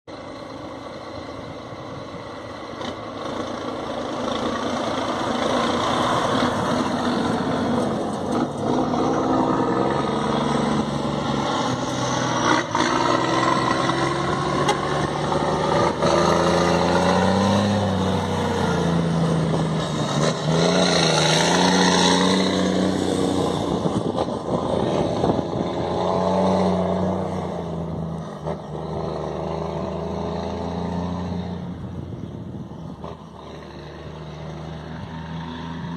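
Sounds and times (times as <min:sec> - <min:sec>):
diesel truck engine revving: 0:00.2 - 0:35.9.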